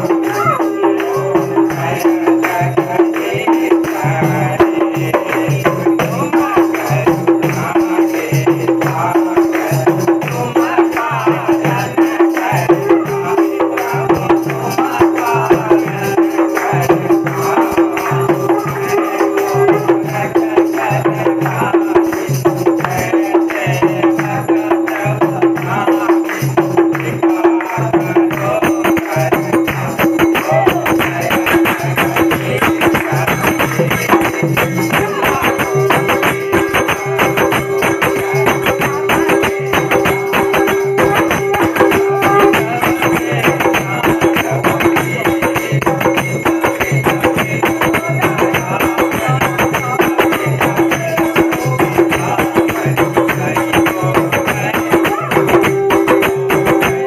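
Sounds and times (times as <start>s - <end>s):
hand clapping: 0.0s - 4.0s, 5.2s - 57.0s
group singing a hymn: 0.0s - 57.0s
hand drum beating a rhythm: 0.0s - 57.0s
jingling percussion: 0.0s - 57.0s.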